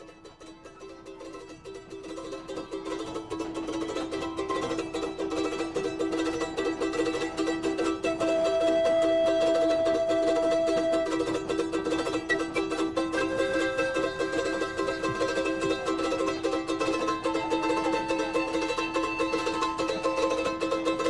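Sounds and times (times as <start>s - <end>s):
fast plucked strings music: 0.0s - 21.0s.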